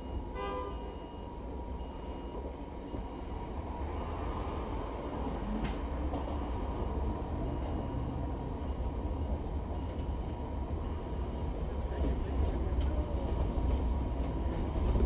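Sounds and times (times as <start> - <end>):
bus engine rumble and road noise: 0.0 - 15.0.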